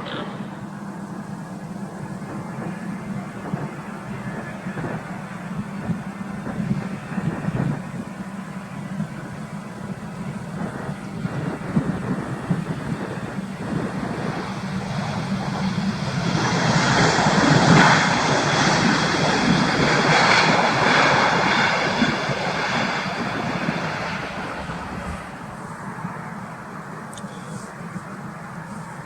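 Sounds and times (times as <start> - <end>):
jet airliner passing close: 0.0 - 29.0.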